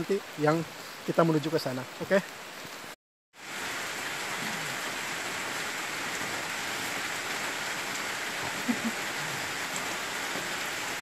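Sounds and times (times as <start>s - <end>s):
rain on leaves and river: 0.0s - 11.0s.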